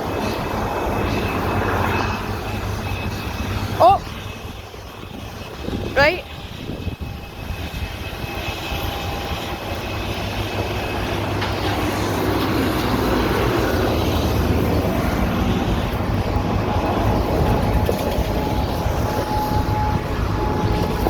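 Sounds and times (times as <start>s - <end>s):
distant siren wailing: 0.0s - 21.0s.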